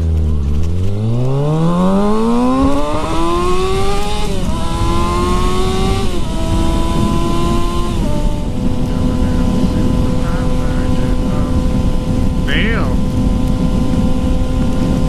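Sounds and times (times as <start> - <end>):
motorcycle engine accelerating: 0.0 - 15.0
wind rush: 1.8 - 15.0.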